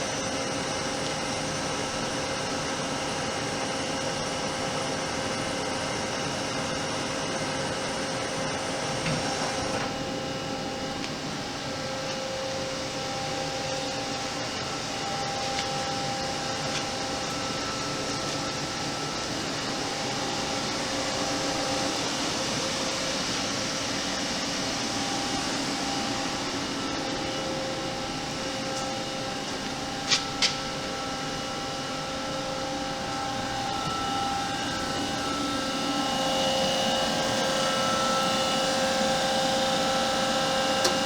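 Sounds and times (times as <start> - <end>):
lathe whirring and whining: 0.0 - 41.0.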